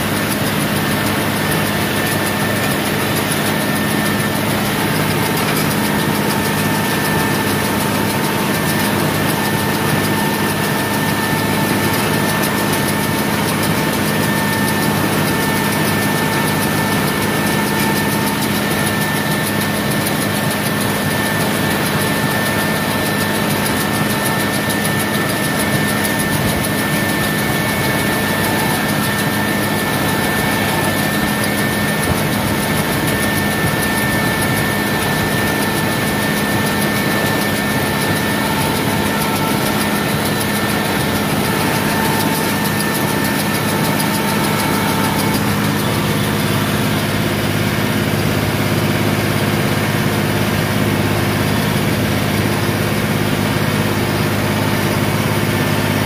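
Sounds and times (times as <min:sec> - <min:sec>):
steady high whine: 0:00.0 - 0:56.0
tractor engine under load: 0:00.0 - 0:56.0.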